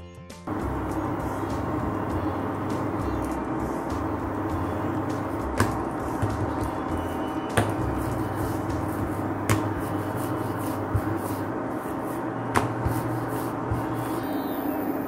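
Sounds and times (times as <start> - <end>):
rolling pin rolling dough: 0.5 - 14.8
low hum: 0.5 - 15.0.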